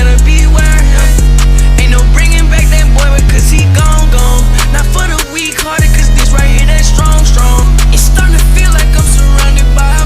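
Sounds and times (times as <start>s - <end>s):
music with deep bass: 0.0s - 10.0s
steady drum beat: 0.0s - 10.0s.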